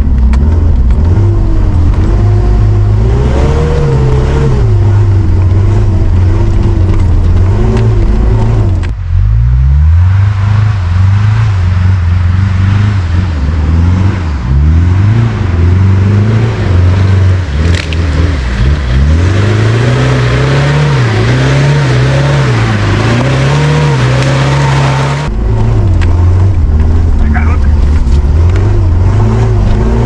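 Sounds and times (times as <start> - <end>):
engine revving: 0.0 - 30.0
steady rushing noise: 0.0 - 30.0.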